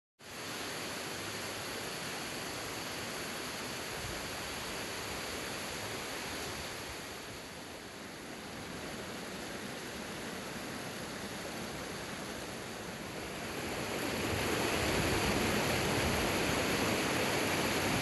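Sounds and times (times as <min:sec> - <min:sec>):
waterfall rushing: 0:00.3 - 0:18.0.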